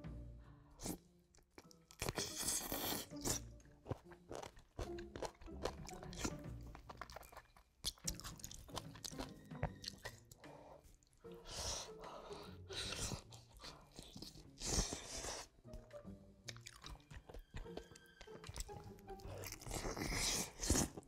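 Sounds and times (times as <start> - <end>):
person chewing crunchy food: 0.8 - 15.8, 16.4 - 21.0
wet mouth sounds: 1.6 - 12.0, 12.7 - 15.8, 16.4 - 21.0.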